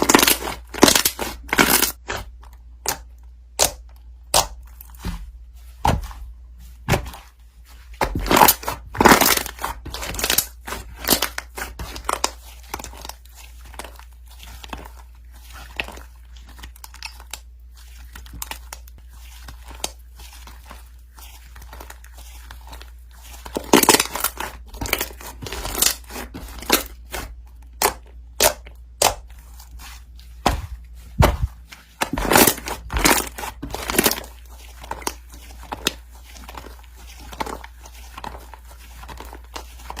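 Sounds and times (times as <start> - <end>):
crinkling and crunching: 0.0 - 40.0.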